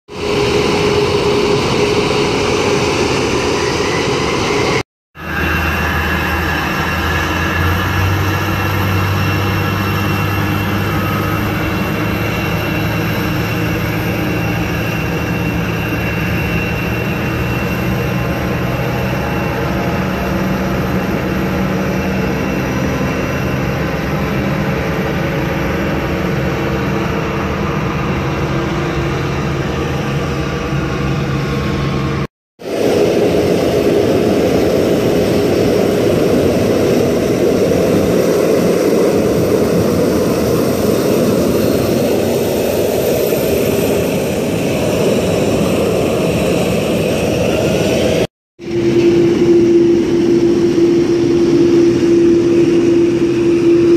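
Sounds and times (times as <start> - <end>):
jet engines roaring: 0.1 - 53.9
loud steady jet roar: 0.1 - 53.9.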